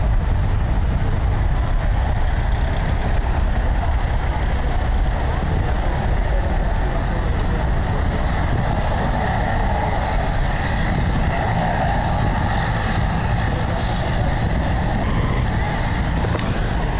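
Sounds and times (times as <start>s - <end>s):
jet engines roaring: 0.0s - 16.9s.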